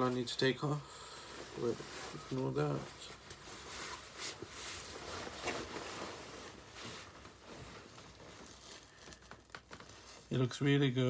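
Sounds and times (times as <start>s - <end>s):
fabric rustling: 0.0s - 10.4s.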